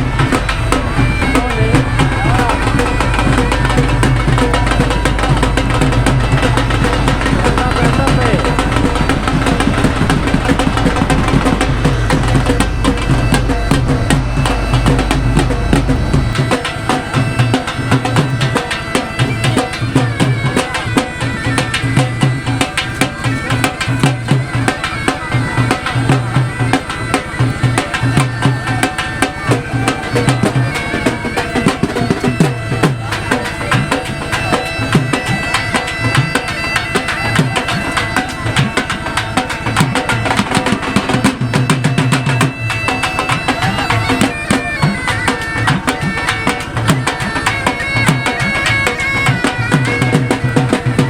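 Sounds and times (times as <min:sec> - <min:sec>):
drums and percussion: 0:00.0 - 0:51.0
reedy wind instrument melody: 0:00.0 - 0:51.0.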